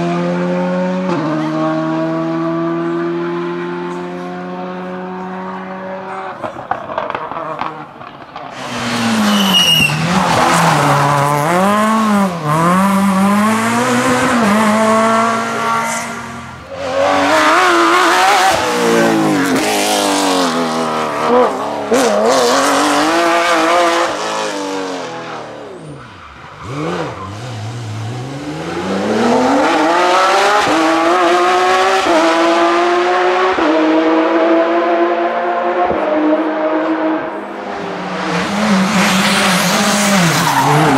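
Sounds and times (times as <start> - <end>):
rally cars revving past: 0.0 - 40.9.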